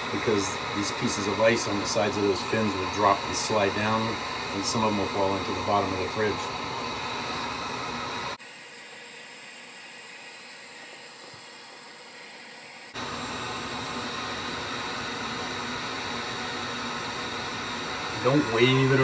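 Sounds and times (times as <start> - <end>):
hot-air blower hissing: 0.0 - 19.0.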